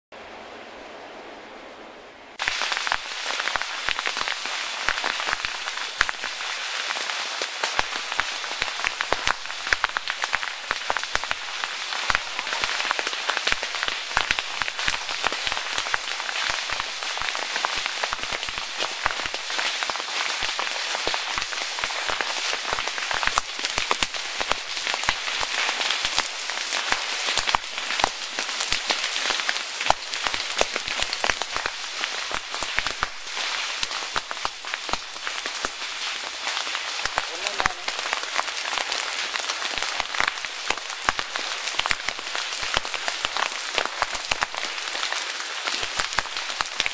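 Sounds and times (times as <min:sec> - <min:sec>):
faint hiss: 0:00.2 - 0:46.9
burning grass crackling and popping: 0:02.4 - 0:46.9.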